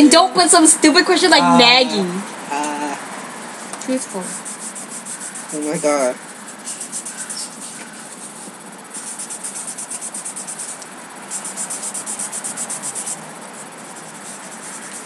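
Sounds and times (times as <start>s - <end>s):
high-pitched insect chirping: 0.0s - 15.0s.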